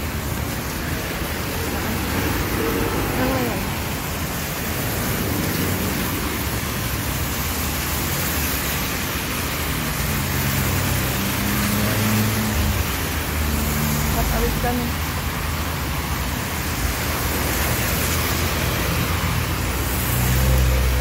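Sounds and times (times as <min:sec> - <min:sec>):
tyres hissing on wet road: 0:00.0 - 0:21.0.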